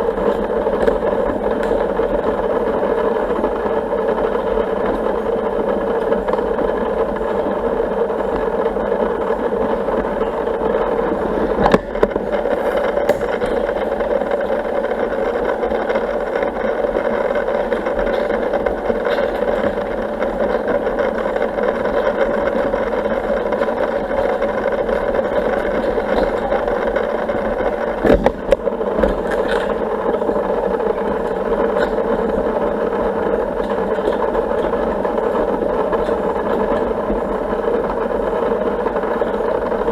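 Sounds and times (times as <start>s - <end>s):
pool pump motor hum: 0.0s - 39.9s.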